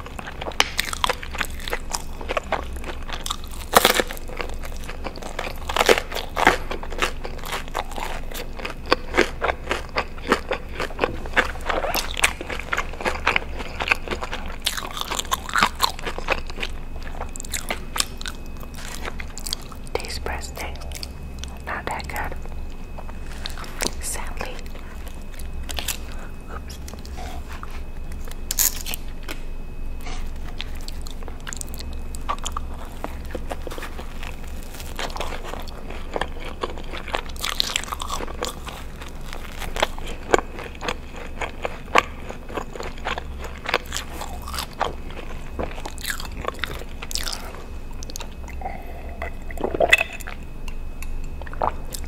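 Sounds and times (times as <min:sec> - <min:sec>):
biting and chewing breadstick: 0:00.0 - 0:52.0.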